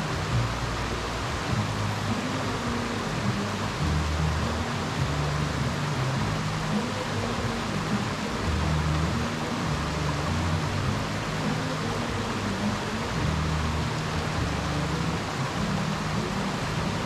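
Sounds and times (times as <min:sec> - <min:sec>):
low droning notes: 0:00.0 - 0:17.0
waterfall rushing: 0:00.0 - 0:17.0.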